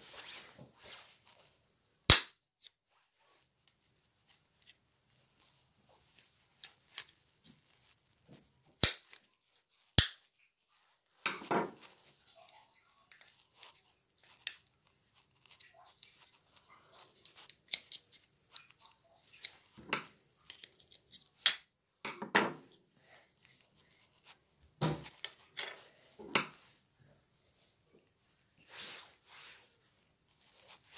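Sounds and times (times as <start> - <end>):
handling rustles and scrapes: 0.0 - 21.8, 22.6 - 30.9.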